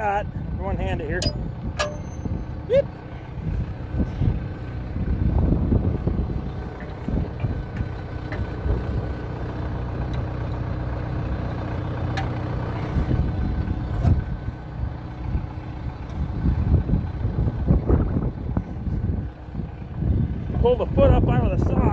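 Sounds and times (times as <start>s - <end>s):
tractor engine idling: 0.0s - 21.9s.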